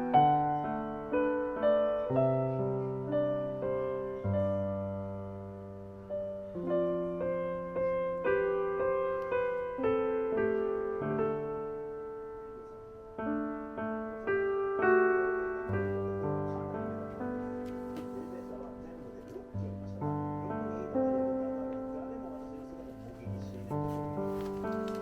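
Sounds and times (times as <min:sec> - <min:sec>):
gentle solo piano: 0:00.0 - 0:25.0.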